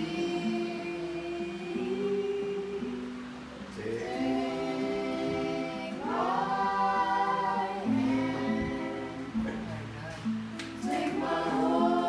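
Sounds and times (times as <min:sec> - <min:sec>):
acoustic guitar strumming: 0:00.0 - 0:12.0
people singing together: 0:00.0 - 0:12.0.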